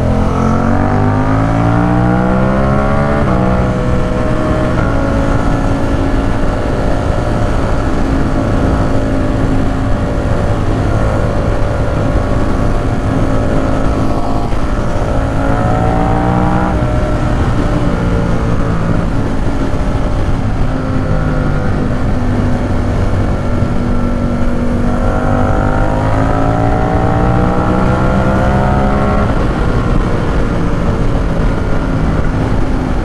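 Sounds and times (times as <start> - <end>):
motorcycle engine revving: 0.0 - 33.0
wind noise on microphone: 0.0 - 33.0.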